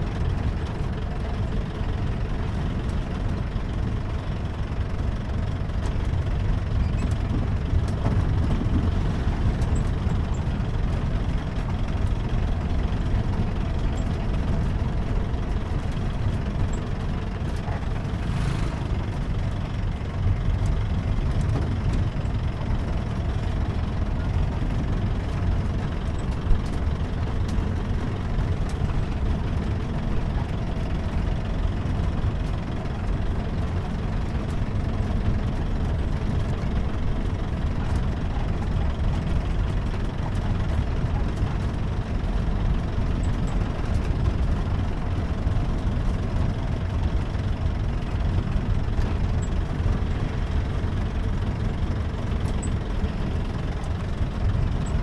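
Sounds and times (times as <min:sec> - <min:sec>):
car engine running: 0:00.0 - 0:55.0
road rumble: 0:00.0 - 0:55.0.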